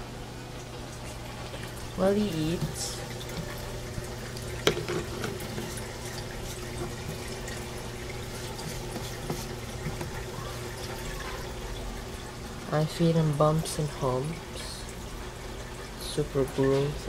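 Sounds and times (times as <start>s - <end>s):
aquarium water splashing and trickling: 0.0s - 17.0s
filter hum: 0.0s - 17.0s.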